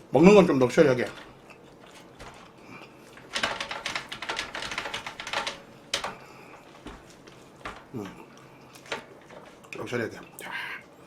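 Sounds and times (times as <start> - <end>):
crackling clicks of food wrapping: 0.4 - 10.4.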